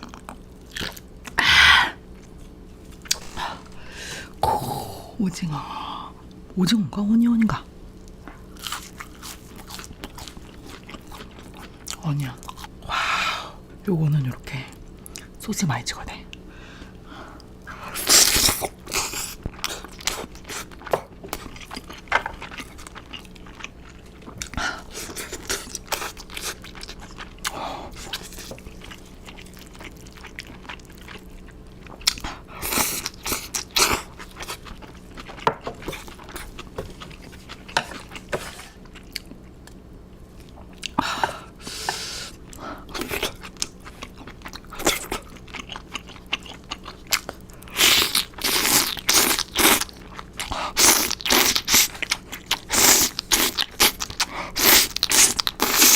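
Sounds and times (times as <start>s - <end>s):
crunchy food being chewed: 0.0s - 1.4s, 2.1s - 3.8s, 8.0s - 12.8s, 17.4s - 41.2s, 41.8s - 55.9s.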